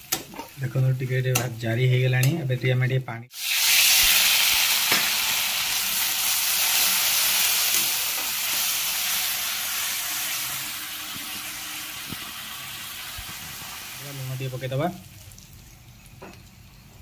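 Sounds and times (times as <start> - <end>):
masala sizzling in hot oil: 0.0 - 2.3, 3.3 - 17.0.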